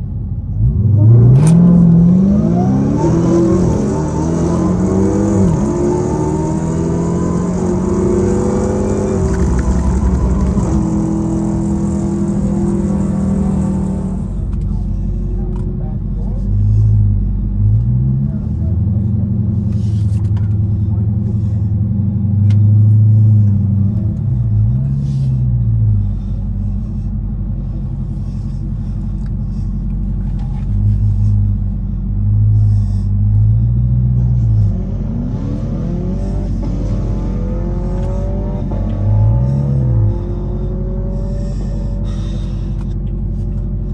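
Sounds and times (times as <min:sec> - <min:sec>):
car engine idling and revving: 0:00.0 - 0:43.9
car accelerating: 0:00.5 - 0:43.9.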